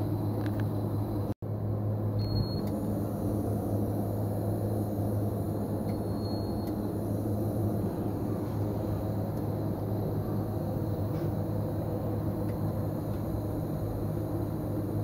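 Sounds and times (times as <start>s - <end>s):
wheel balancer hum: 2.3s - 15.0s.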